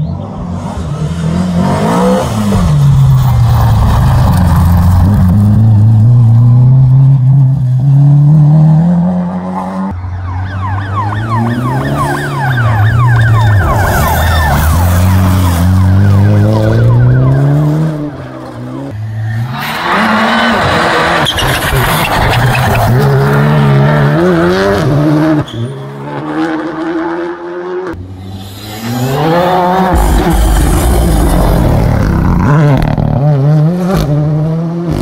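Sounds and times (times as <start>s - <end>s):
rally car engine at full throttle: 0.0s - 35.0s.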